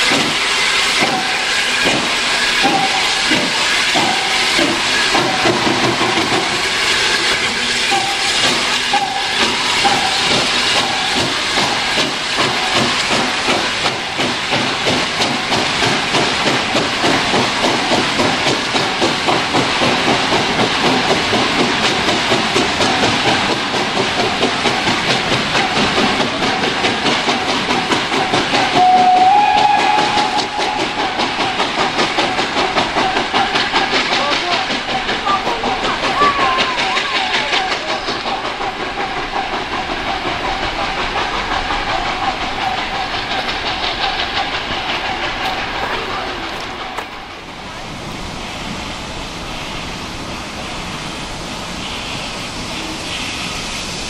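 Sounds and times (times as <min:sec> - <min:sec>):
steam hissing: 0:00.0 - 0:54.0
steam locomotive chuffing: 0:00.0 - 0:54.0.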